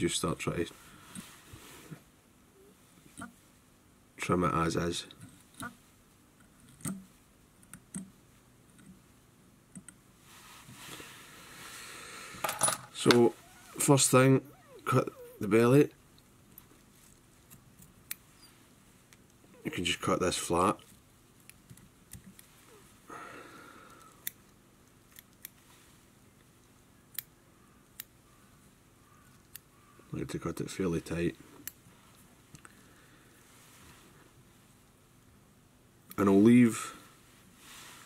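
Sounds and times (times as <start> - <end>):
soft steady hiss: 0.0 - 38.0.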